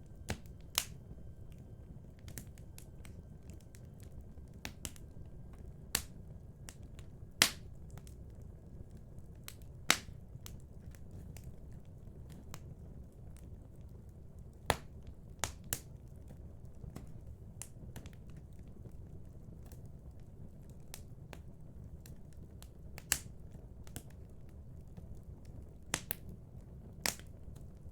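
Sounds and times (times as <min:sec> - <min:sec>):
low rumble of flames: 0:00.0 - 0:27.9
wood fire crackling and popping: 0:00.0 - 0:27.9.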